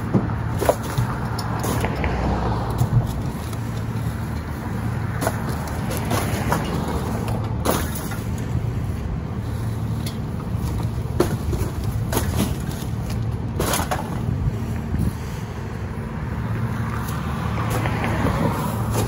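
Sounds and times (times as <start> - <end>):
garbage truck diesel engine running: 0.0 - 1.9, 2.5 - 19.0.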